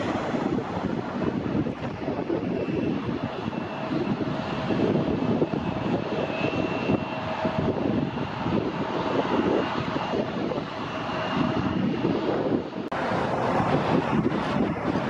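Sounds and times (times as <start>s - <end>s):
faint engine whine: 0.0s - 15.0s
jet engines rumbling and roaring: 0.0s - 15.0s.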